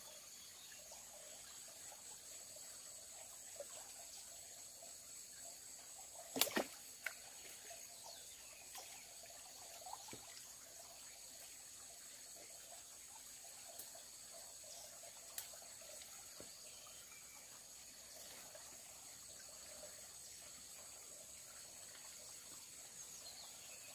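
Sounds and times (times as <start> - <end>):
shallow stream trickling: 0.0 - 23.9.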